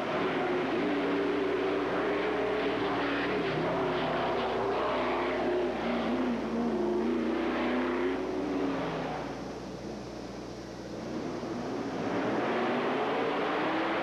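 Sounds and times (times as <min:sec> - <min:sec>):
race car engine revving: 0:00.0 - 0:10.0, 0:10.9 - 0:14.0.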